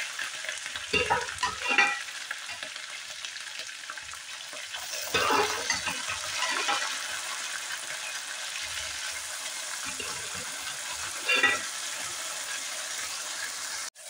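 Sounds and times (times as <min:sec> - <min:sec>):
onions and meat sizzling in oil: 0:00.0 - 0:14.0.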